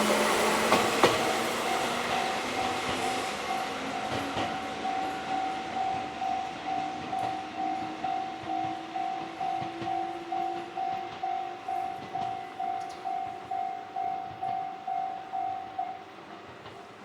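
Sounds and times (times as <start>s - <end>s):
level crossing warning bell: 0.0s - 17.0s
low train hum: 0.0s - 17.0s.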